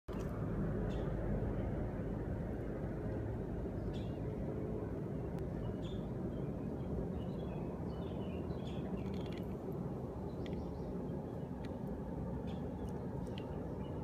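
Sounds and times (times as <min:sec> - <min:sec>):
low outdoor rumble: 0:00.1 - 0:14.0.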